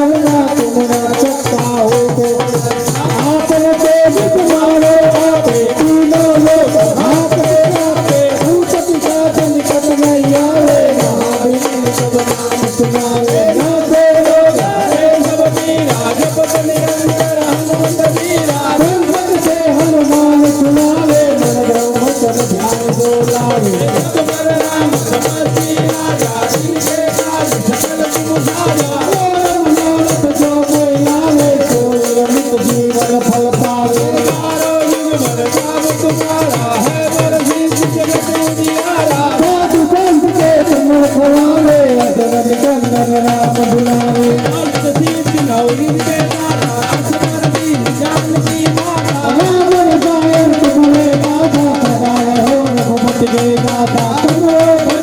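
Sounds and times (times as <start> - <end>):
fast percussion rhythm: 0.0 - 55.0
shaker rattle: 0.0 - 55.0.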